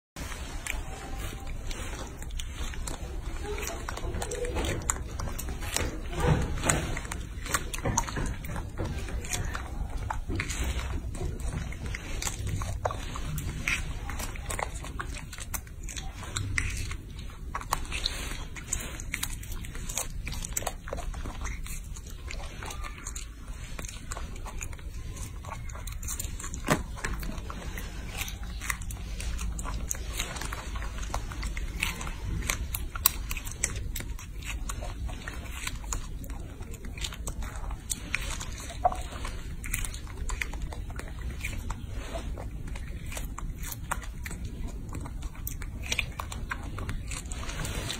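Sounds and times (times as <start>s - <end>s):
monkey chewing fruit: 0.1s - 47.9s.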